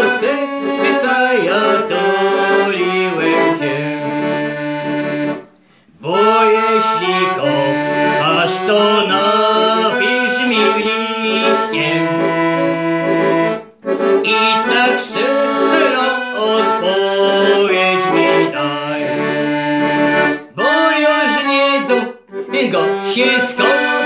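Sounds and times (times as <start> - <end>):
accordion playing folk tune: 0.0 - 24.0.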